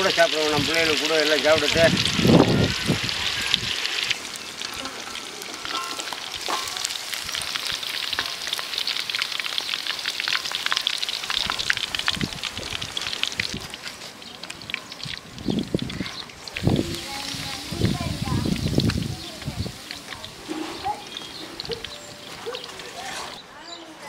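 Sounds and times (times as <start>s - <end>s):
food sizzling in hot oil: 0.0s - 23.4s.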